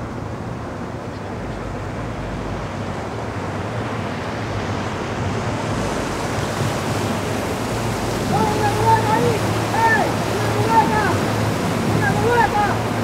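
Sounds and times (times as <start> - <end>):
low engine hum: 0.0 - 13.0
water rushing: 0.0 - 13.0
wind on microphone: 0.0 - 13.0.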